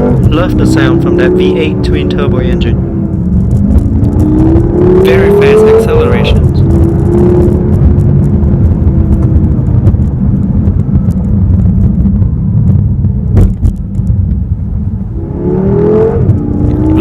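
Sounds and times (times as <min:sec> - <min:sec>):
car engine deep rumble: 0:00.0 - 0:17.0
road noise: 0:00.0 - 0:17.0.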